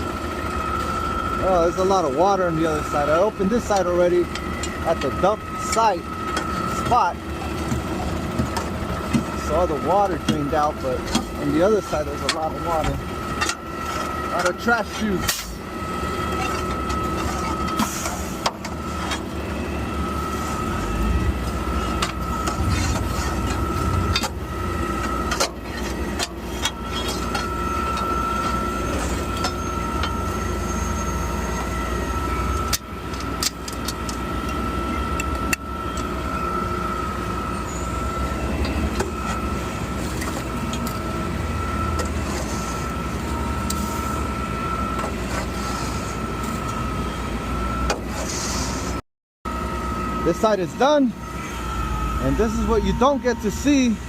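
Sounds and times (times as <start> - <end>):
garbage truck whine and rumble: 0.0 - 54.0.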